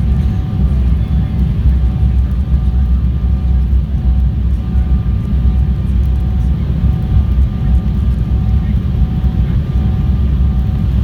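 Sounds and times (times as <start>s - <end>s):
airliner cabin low rumble: 0.0s - 11.0s.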